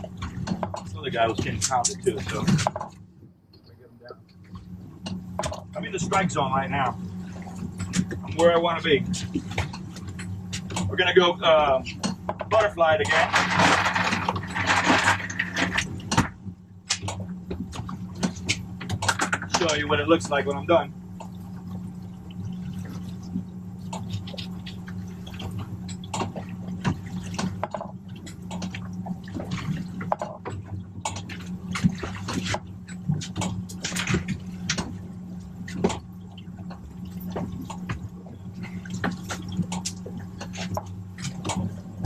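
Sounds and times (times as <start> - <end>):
water splashing and trickling: 0.0 - 3.0, 4.2 - 42.0
steady low hum: 0.0 - 42.0.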